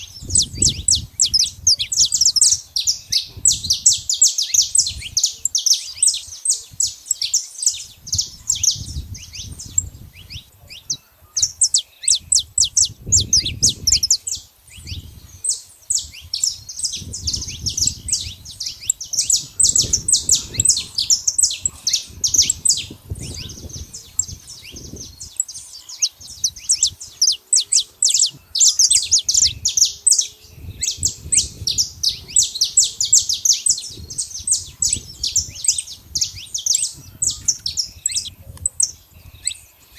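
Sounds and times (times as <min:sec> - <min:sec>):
finches singing high chirps: 0:00.0 - 0:39.9.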